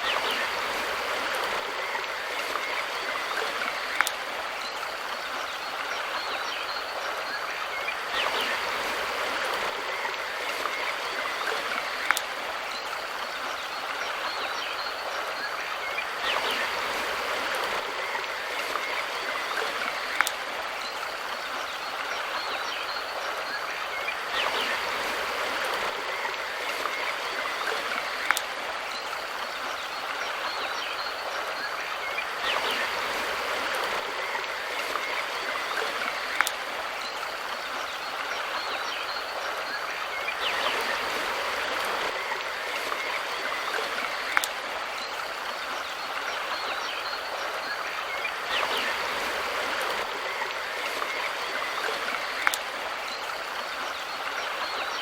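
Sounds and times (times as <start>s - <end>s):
mountain river flowing: 0.0s - 55.0s.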